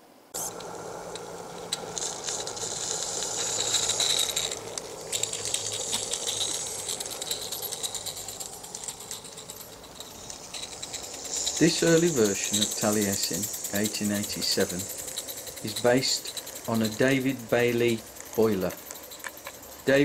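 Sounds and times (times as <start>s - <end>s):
hiss of steam: 0.4s - 20.0s
model steam locomotive chuffing: 0.4s - 20.0s.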